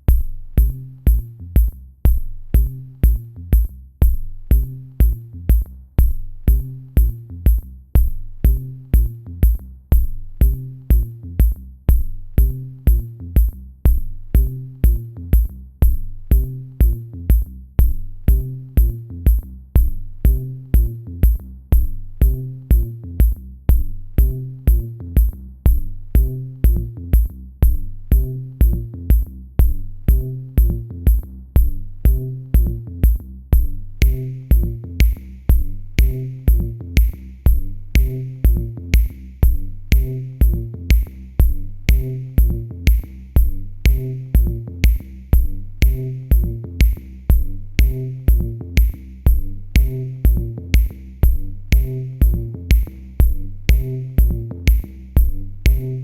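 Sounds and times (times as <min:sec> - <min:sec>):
electronic music with steady beat: 0:00.0 - 0:56.0.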